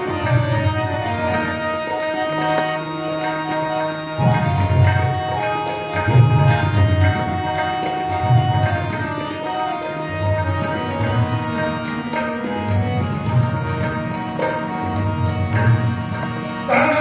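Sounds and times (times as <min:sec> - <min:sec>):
harmonium melody: 0:00.0 - 0:17.0
tabla rhythm: 0:00.0 - 0:17.0.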